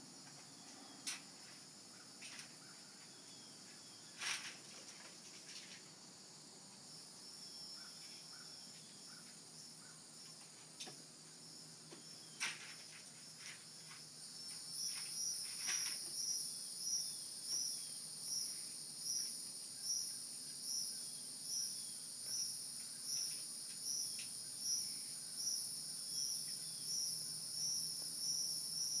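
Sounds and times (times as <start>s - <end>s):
insects chirping in pulses: 0.0s - 29.0s.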